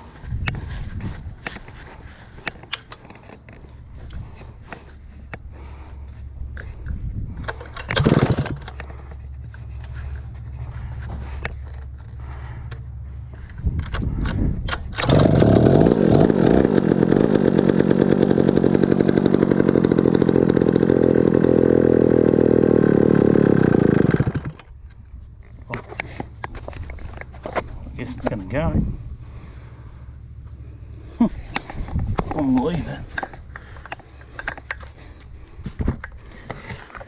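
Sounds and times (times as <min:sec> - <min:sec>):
chainsaw starter pulls: 0:00.5 - 0:28.7, 0:31.3 - 0:37.0
chainsaw engine running: 0:01.8 - 0:37.0.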